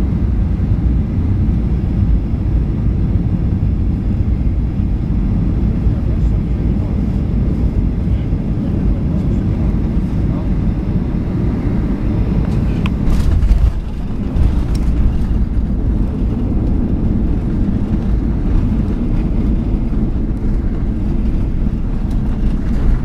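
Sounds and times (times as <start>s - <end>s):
airplane rolling on runway rumble: 0.0s - 23.0s.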